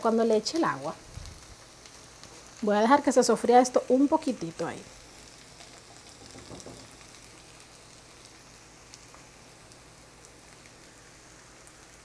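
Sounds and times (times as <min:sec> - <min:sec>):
meat frying in a pan: 0:00.0 - 0:12.0.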